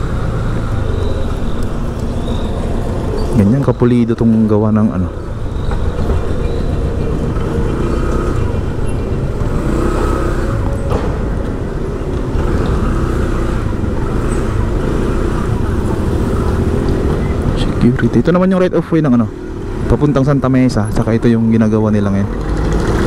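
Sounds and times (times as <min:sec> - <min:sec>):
car and motorcycle engines rumbling: 0:00.0 - 0:23.0
tyres passing close by: 0:00.0 - 0:23.0.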